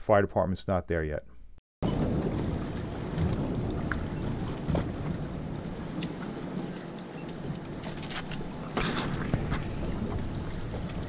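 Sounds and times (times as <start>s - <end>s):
wind rumbling on microphone: 1.8s - 11.0s
water slapping against boat hull: 1.9s - 11.0s.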